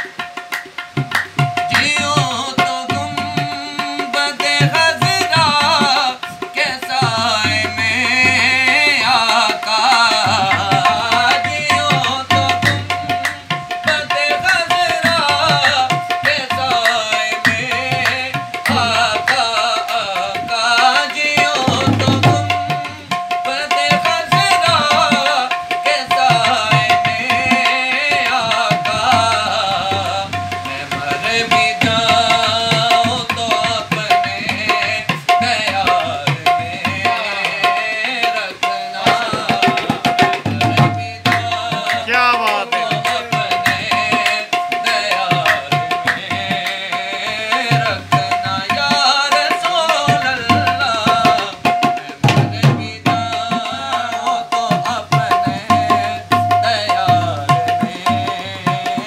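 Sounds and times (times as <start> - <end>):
tabla fast rhythm: 0.0 - 59.0.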